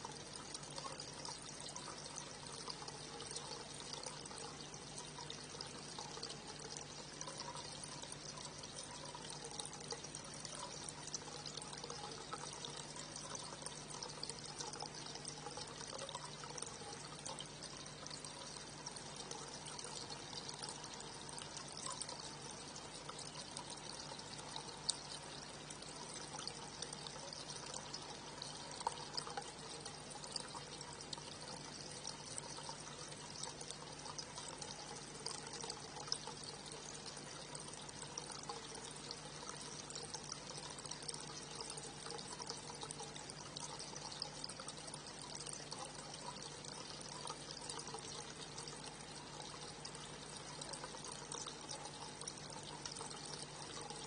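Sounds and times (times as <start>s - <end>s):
low steady hum: 0.0s - 54.0s
water trickling: 0.0s - 54.0s.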